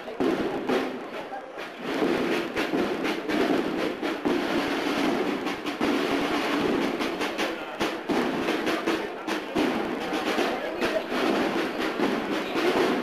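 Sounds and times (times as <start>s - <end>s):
marching band drums: 0.0s - 13.0s.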